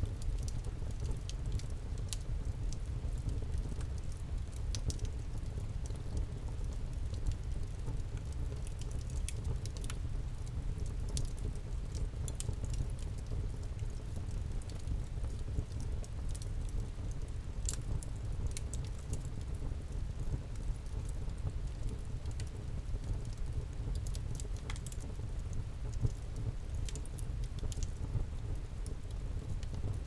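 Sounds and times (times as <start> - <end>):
fire crackles and pops: 0.0 - 30.0
low rumble of flames: 0.0 - 30.0.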